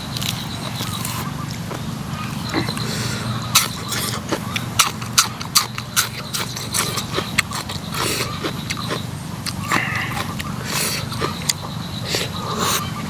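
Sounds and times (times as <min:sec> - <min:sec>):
wet chewing and crunching: 0:00.0 - 0:13.0.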